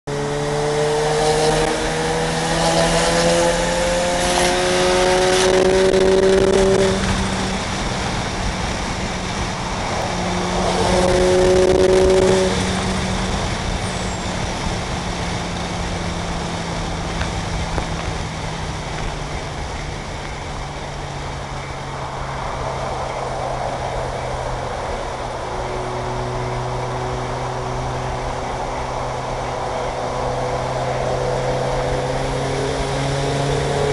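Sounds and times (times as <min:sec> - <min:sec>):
car engine pulling hard: 0:00.0 - 0:33.9
road and wind noise: 0:00.0 - 0:33.9.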